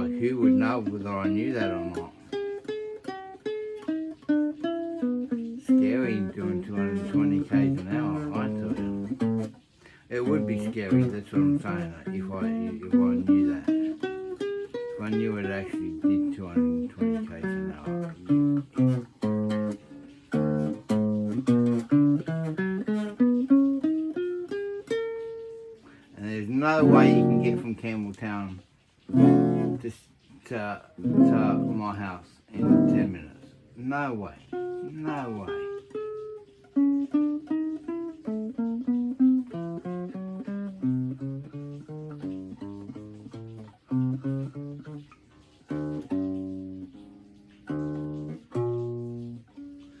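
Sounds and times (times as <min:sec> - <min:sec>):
guitar plucked and strummed: 0:00.0 - 0:50.0.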